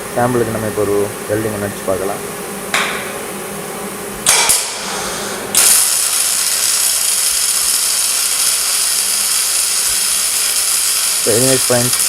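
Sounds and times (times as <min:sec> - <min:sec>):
welder arc sputtering and hissing: 0:00.0 - 0:12.0.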